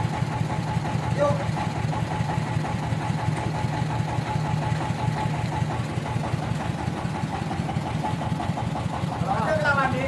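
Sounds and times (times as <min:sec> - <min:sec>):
sawmill engine idling: 0:00.0 - 0:10.0.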